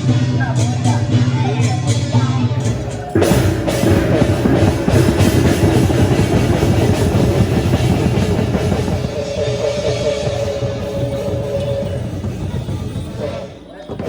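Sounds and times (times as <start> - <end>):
music with fast heavy drumming: 0.0 - 14.0.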